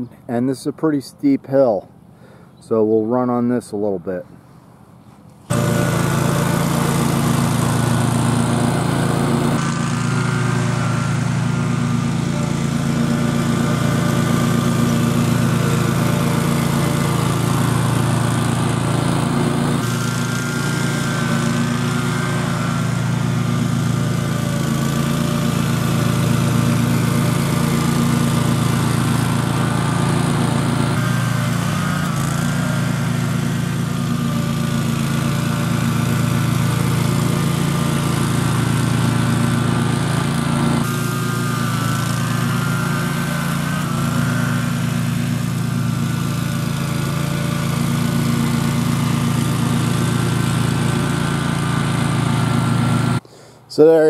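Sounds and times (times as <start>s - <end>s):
mower engine running: 4.7s - 54.0s.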